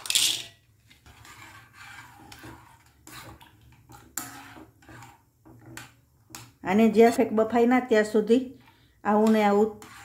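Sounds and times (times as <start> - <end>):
spoon stirring peanuts in water: 0.0 - 10.0.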